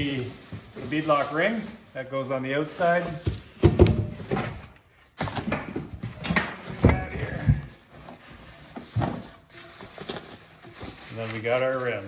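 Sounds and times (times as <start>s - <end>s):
plastic wrap rustling and crinkling: 0.0s - 12.0s.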